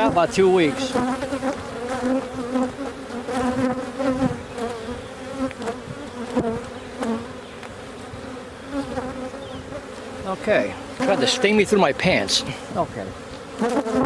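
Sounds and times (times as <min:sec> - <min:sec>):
bees buzzing drone: 0:00.0 - 0:14.0
single bees flying past: 0:00.0 - 0:14.0.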